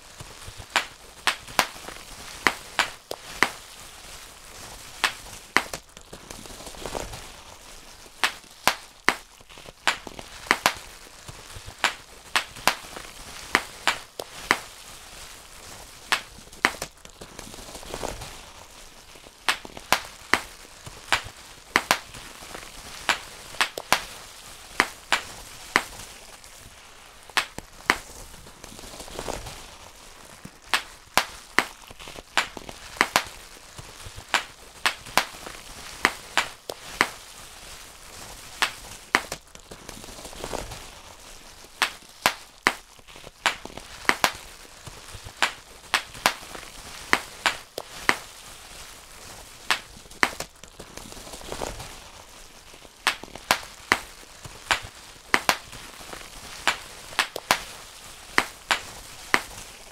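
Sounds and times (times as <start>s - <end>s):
bubble wrap popping: 0.0s - 59.9s.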